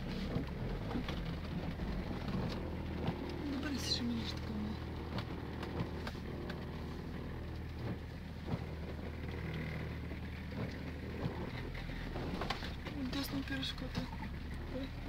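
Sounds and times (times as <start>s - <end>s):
vehicle engine running low: 0.0s - 15.0s.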